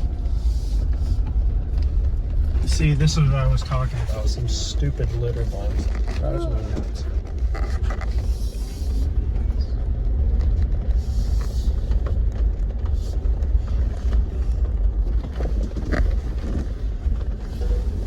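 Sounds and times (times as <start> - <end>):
engine and drivetrain noise: 0.0 - 18.0.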